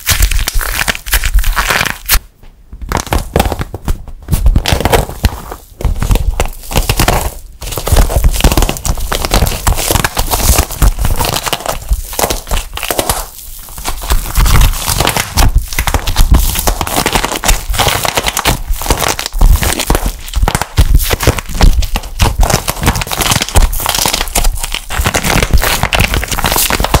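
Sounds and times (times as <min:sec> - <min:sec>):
plaster shell cracking: 0:00.0 - 0:02.2, 0:02.8 - 0:27.0.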